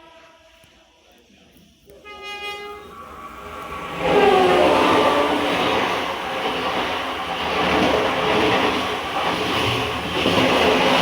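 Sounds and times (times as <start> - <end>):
train passing close: 0.0 - 11.0.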